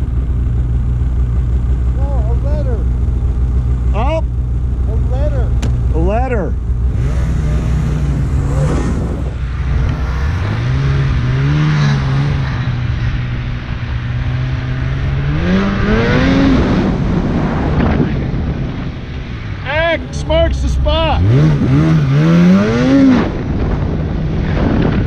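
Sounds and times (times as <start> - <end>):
snowmobile engine revving: 0.0 - 25.0
track and wind rush: 0.0 - 25.0.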